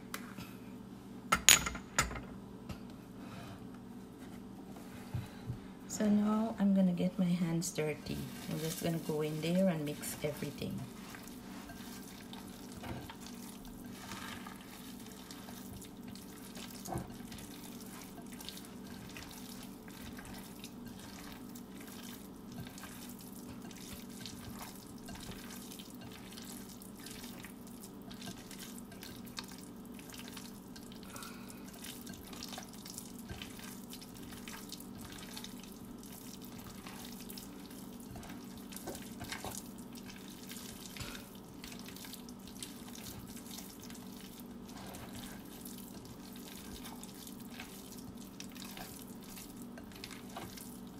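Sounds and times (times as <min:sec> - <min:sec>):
steady low hum: 0:00.0 - 0:50.9
hands squelching wet meat: 0:08.0 - 0:50.9.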